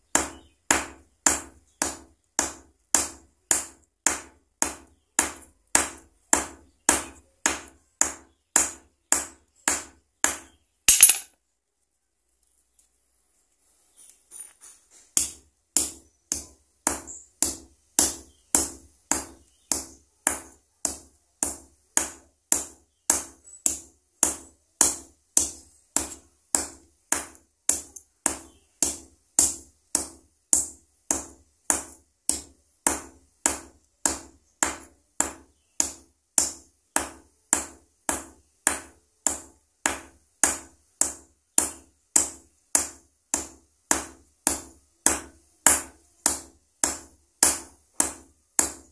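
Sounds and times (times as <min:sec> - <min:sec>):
hammer pounding on anvil: 0:00.2 - 0:11.3, 0:15.2 - 0:48.9.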